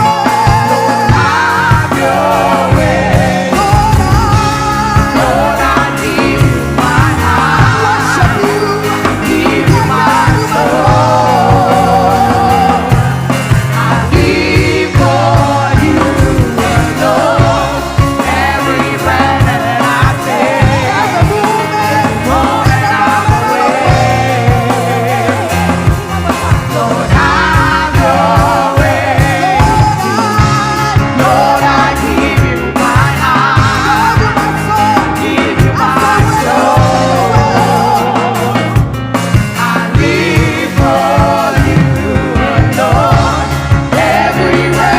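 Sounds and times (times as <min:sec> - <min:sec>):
voices singing: 0:00.0 - 0:44.9
worship band playing: 0:00.0 - 0:44.9.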